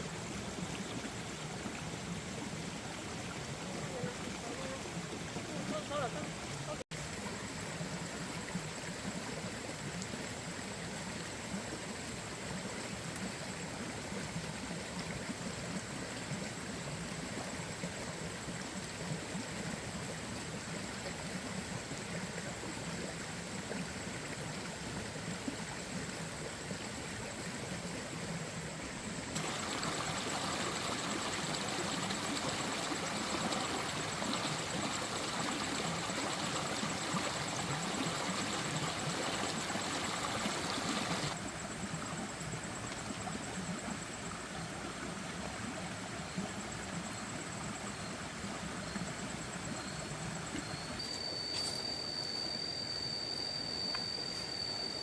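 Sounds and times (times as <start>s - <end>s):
rushing water: 0.0s - 52.2s.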